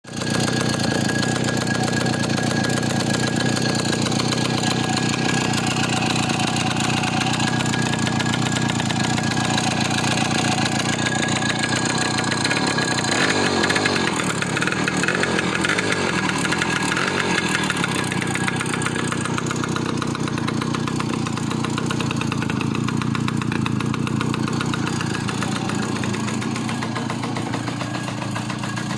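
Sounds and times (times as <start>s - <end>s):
moped engine running: 0.0s - 28.9s.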